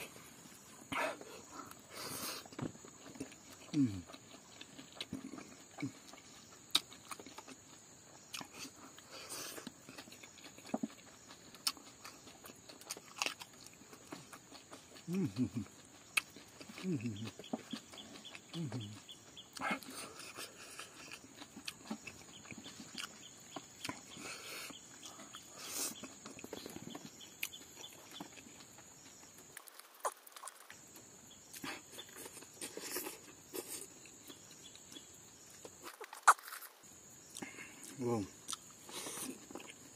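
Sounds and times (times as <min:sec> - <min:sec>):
chewing and lip smacks: 0:00.0 - 0:39.9.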